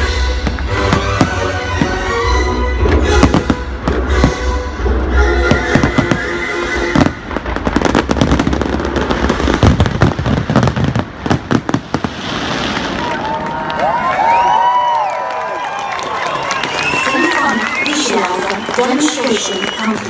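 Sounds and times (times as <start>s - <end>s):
fireworks bangs and crackles: 0.0s - 15.0s, 16.6s - 20.0s.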